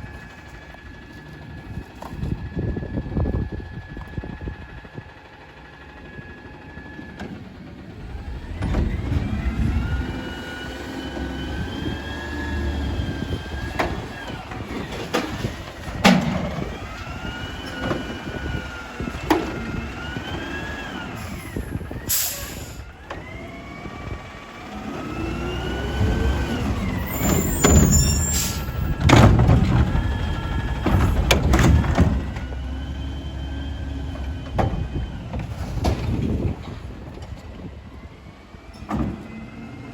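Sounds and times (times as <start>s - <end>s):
garbage truck engine revving: 5.5s - 39.9s
hydraulic whine: 6.2s - 39.9s.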